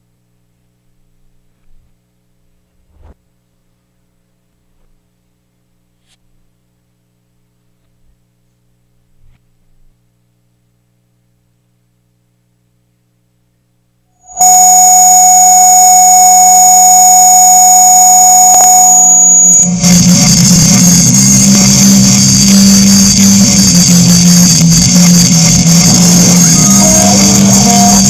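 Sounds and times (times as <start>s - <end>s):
faint mains hum: 0.0s - 28.0s.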